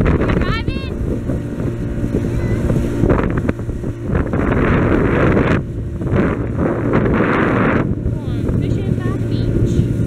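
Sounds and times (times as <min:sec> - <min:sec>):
outboard motor running: 0:00.0 - 0:10.0
wind on microphone: 0:00.0 - 0:10.0.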